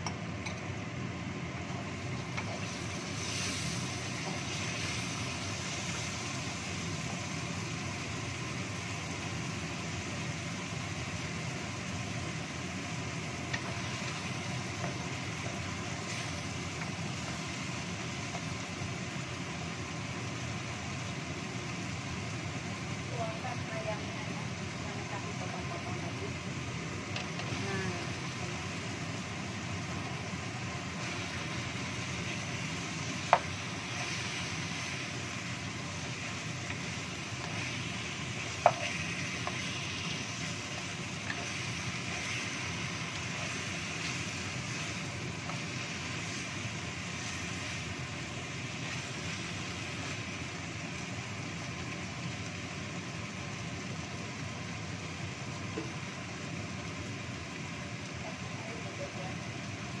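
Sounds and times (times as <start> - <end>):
food sizzling in a wok: 0.0 - 60.0.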